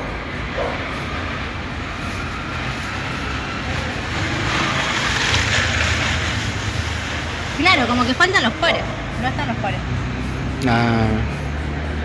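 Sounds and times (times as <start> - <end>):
rumble of passing cars: 0.0 - 12.0.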